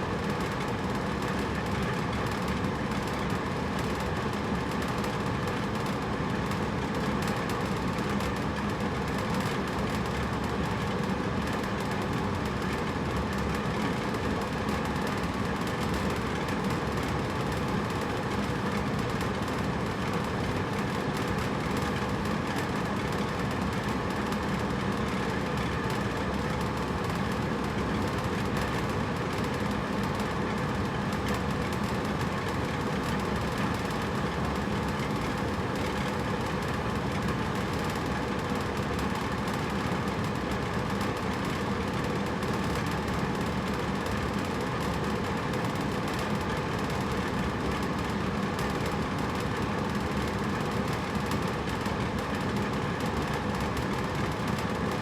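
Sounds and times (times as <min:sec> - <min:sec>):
air conditioner running: 0:00.0 - 0:55.0.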